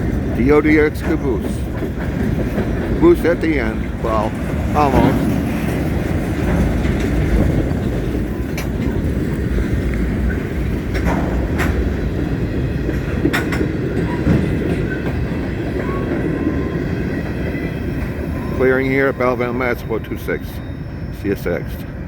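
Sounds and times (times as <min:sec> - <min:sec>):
wheels clicking over rail joints: 0:00.0 - 0:20.5
train wheels rumbling on rail: 0:00.0 - 0:22.0.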